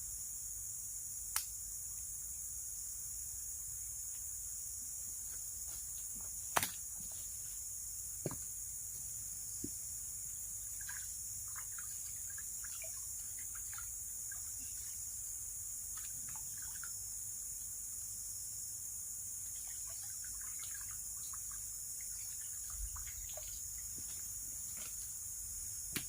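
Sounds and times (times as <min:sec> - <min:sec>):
insects chorus: 0:00.0 - 0:26.0.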